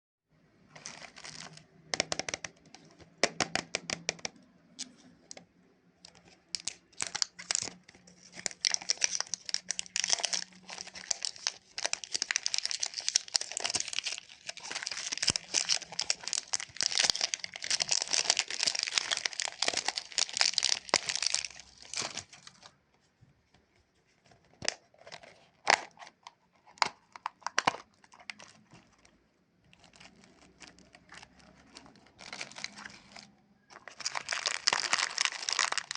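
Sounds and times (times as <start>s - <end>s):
plastic wrapper crinkling: 0.7s - 5.4s, 6.0s - 22.8s, 24.6s - 35.9s.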